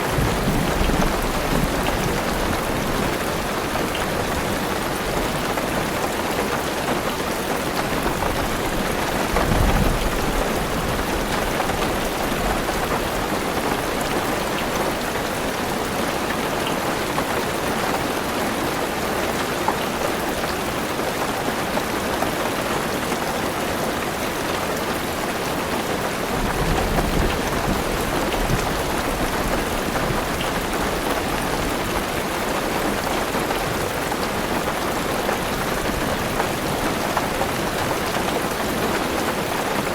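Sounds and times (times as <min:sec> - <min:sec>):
heavy rain on a car roof: 0:00.0 - 0:39.9.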